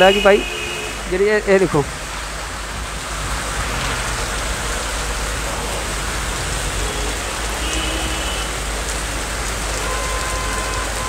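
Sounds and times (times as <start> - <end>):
heavy rain on a wet street: 0.0 - 11.0.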